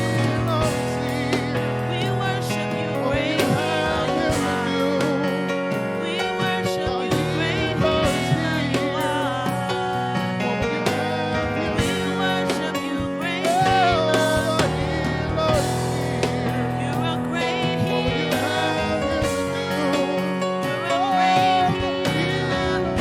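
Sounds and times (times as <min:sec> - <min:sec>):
band playing worship music: 0:00.0 - 0:23.0
drum beats: 0:00.0 - 0:23.0
person singing: 0:00.0 - 0:23.0.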